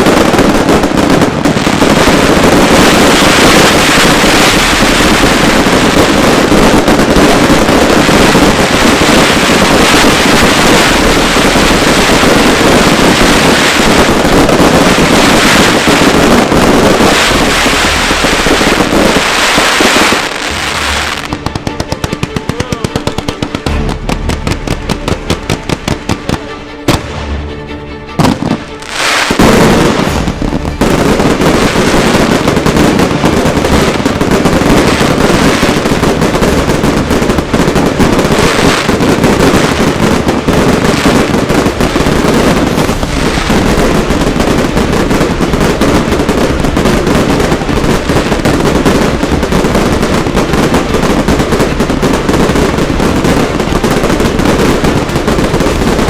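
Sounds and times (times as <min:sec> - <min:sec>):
fireworks and firecracker bangs: 0:00.0 - 0:27.4, 0:28.2 - 0:56.0.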